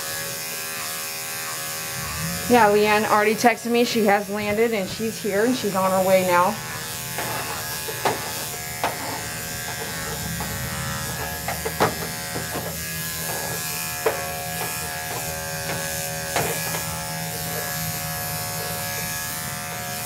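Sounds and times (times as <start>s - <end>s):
electric clipper buzzing: 0.0s - 20.0s.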